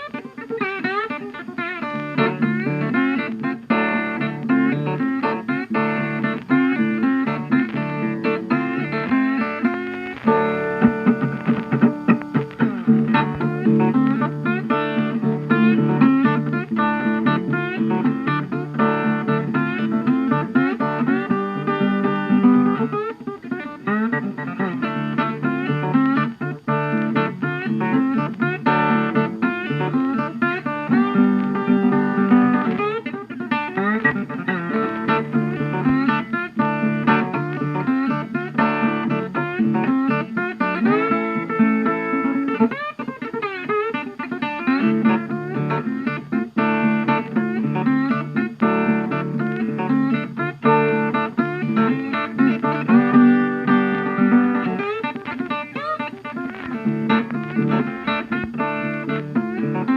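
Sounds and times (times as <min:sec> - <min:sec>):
blues guitar music with beat: 0:00.0 - 0:59.9.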